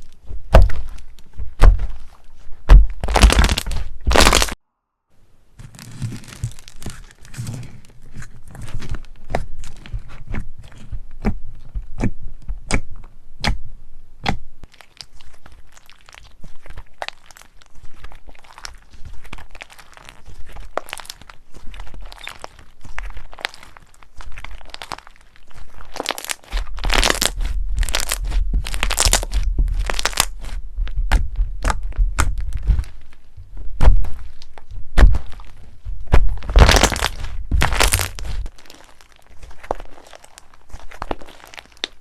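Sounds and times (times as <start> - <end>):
slime crackling and crunching: 0.0 - 4.6, 5.6 - 13.6, 14.2 - 42.0.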